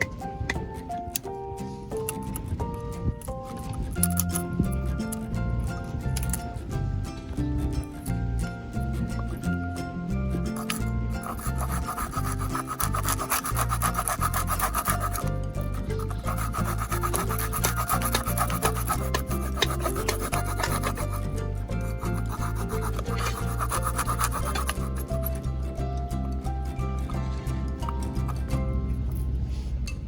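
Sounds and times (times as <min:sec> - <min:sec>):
background music: 0:00.0 - 0:29.5
rasping scraping sound: 0:01.7 - 0:29.9.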